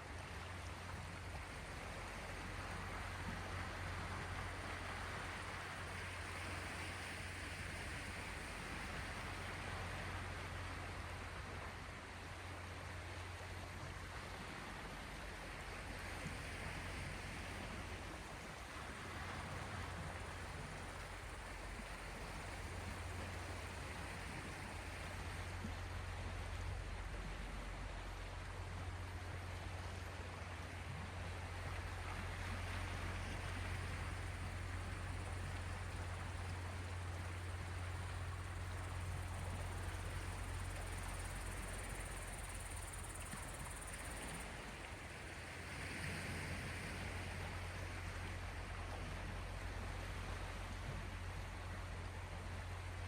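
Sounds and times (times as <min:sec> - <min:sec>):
constant low rumble: 0:00.0 - 0:53.0
waves washing in: 0:00.0 - 0:53.0.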